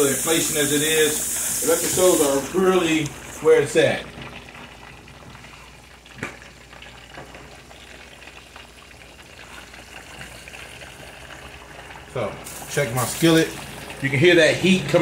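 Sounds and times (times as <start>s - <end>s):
deep-frying bubbling sizzle: 0.0s - 15.0s.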